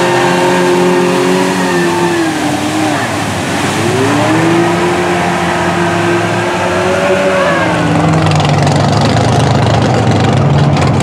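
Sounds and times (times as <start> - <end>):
mud and water rushing: 0.0 - 11.0
truck engine revving: 0.0 - 11.0.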